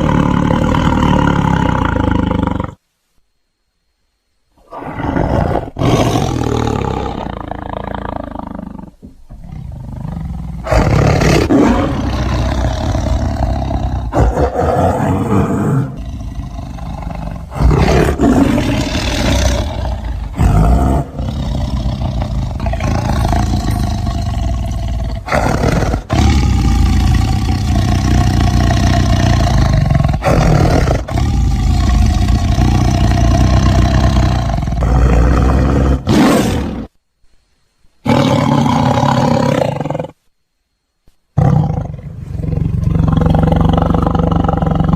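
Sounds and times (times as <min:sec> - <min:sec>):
tiger roaring: 0:00.0 - 0:02.8, 0:04.6 - 0:36.9, 0:38.0 - 0:40.2, 0:41.4 - 0:44.9.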